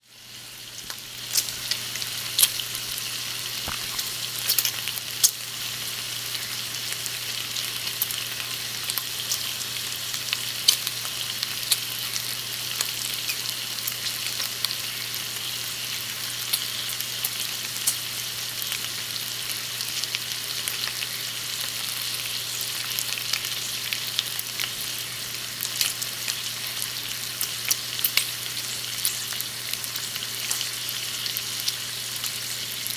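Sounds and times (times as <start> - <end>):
bacon sizzling in a pan: 0.0 - 32.9.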